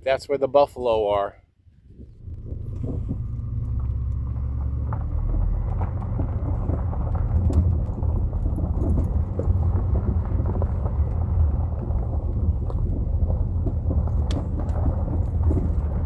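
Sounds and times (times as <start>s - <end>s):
vehicle rumbling over rough ground: 1.7s - 16.0s
rattles and knocks: 1.9s - 16.0s.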